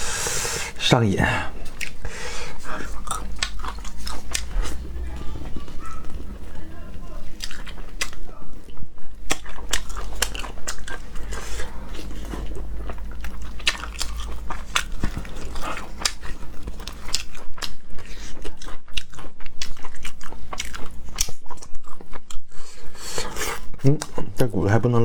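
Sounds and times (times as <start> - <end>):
person crunching and chewing: 0.0 - 24.5.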